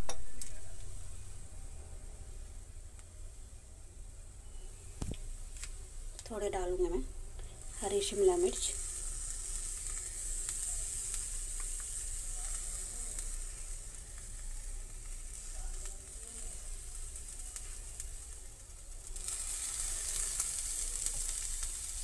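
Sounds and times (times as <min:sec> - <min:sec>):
frying sizzle with light crackles: 0:00.0 - 0:22.0.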